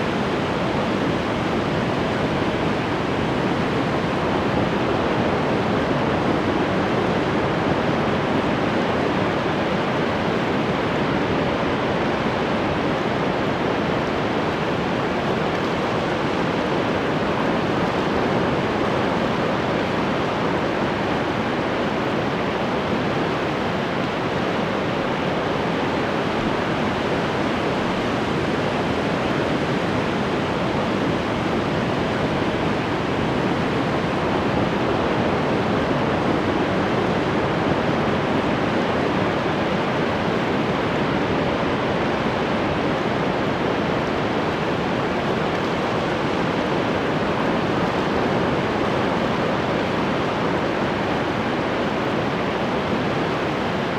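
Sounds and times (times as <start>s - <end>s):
ocean surf washing: 0.0s - 53.9s.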